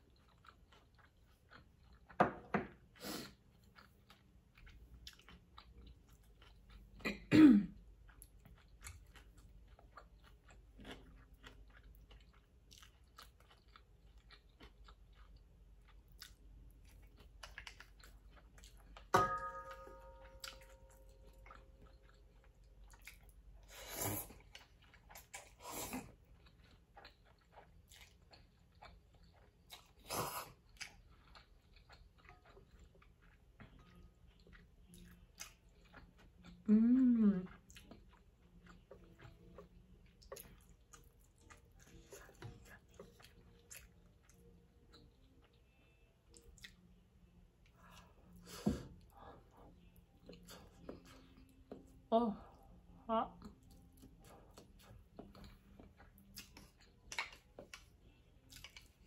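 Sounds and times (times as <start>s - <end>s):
soft chewing: 0.0s - 59.0s.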